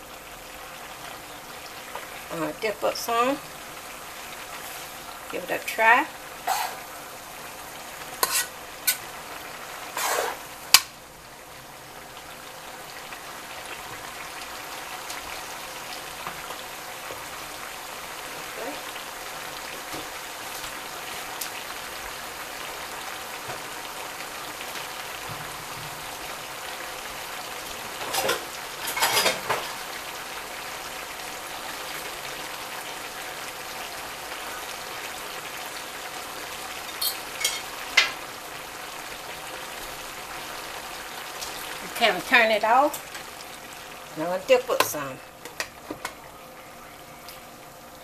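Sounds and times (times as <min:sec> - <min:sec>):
food sizzling in a pot: 0:00.0 - 0:48.0.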